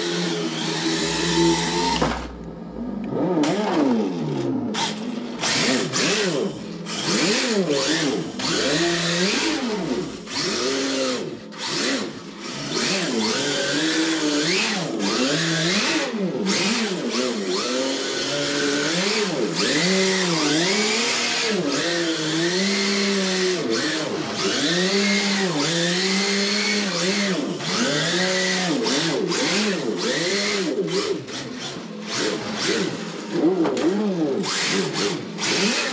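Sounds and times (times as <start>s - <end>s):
electric motor whine: 0.0s - 35.9s
simulated engine revving: 0.0s - 35.9s.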